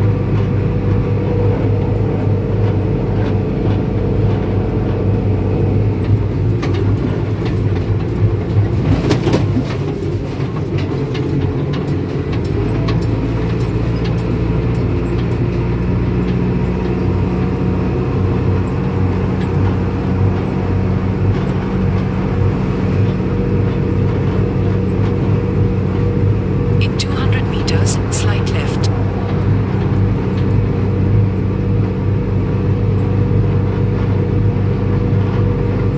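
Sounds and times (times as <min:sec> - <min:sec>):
diesel engine drone from cab: 0:00.0 - 0:35.9.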